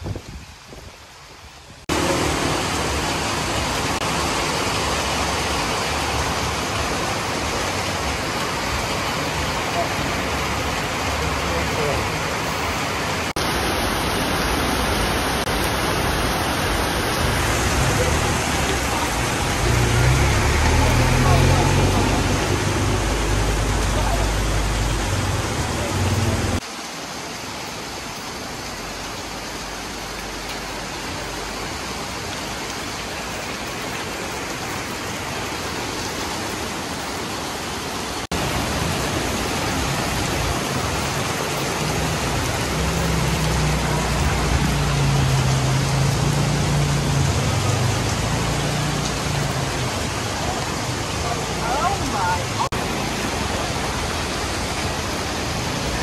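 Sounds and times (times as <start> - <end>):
heavy rain and running water: 0.0 - 56.0.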